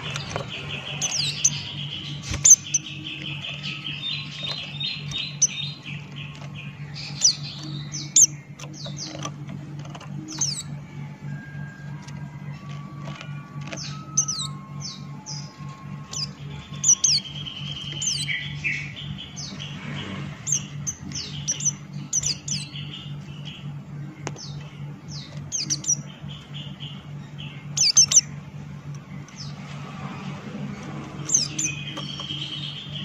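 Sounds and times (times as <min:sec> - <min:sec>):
steady low hum: 0:00.0 - 0:33.0
white-eye bird singing: 0:00.0 - 0:33.0.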